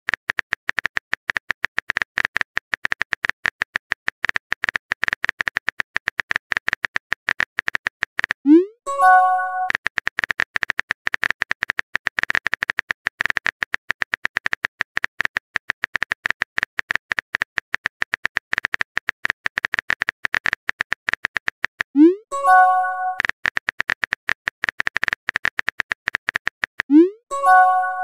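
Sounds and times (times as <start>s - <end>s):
fast uneven electronic clicks: 0.1s - 28.0s.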